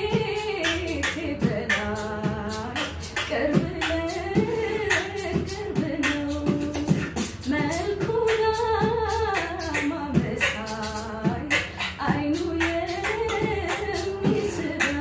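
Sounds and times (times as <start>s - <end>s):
woman singing: 0.0s - 15.0s
man beatboxing: 0.1s - 15.0s.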